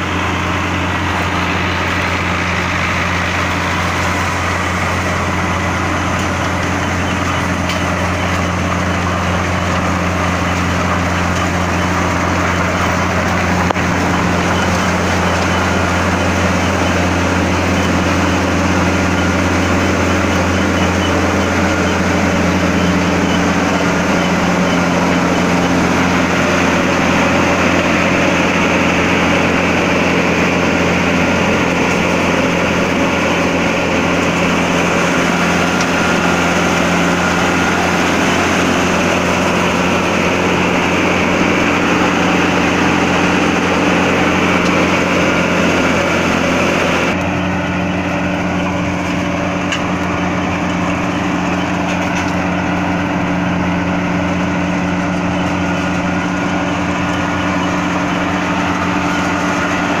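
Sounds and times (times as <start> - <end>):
conveyor belts running: 0.0 - 60.0
harvester engine hum: 0.0 - 60.0.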